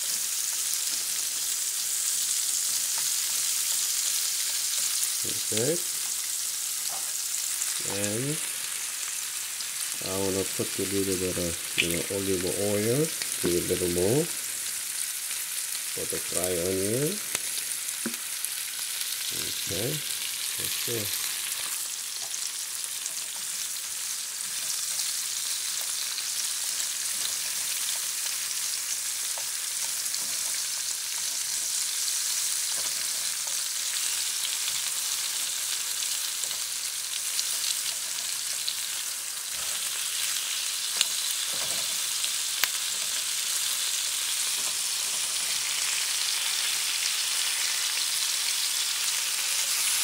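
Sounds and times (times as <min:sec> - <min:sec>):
chicken and onion sizzling in oil: 0:00.0 - 0:50.0.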